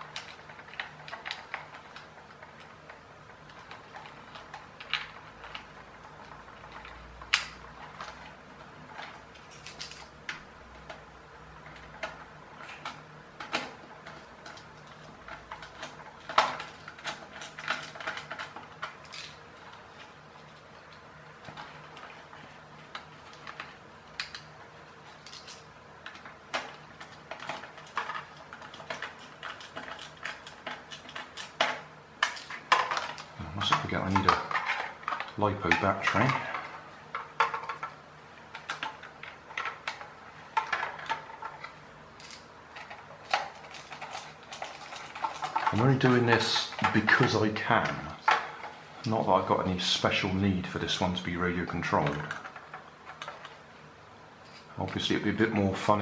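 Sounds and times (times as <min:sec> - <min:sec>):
plastic toy parts clicking and rattling: 0:00.0 - 0:53.7.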